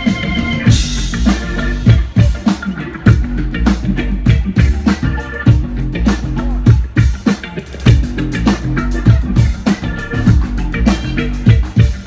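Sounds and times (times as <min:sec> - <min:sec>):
deep bass line: 0:00.0 - 0:12.0
live band playing loudly: 0:00.0 - 0:12.0.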